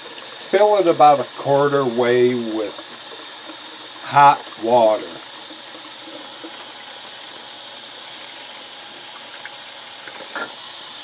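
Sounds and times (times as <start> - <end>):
water running into plastic bag: 0.0 - 11.0.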